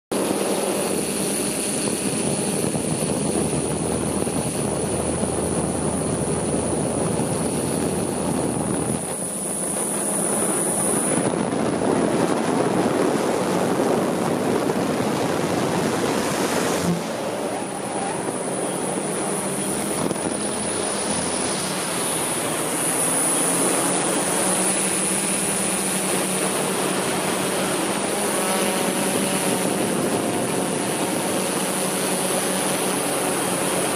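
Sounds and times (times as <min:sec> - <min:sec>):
drone motors whirring: 0:00.2 - 0:33.9.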